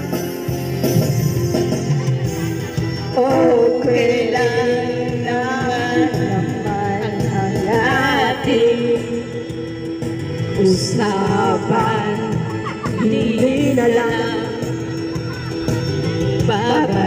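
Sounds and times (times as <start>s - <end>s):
backing track music: 0.0s - 17.0s
woman singing karaoke: 2.8s - 17.0s.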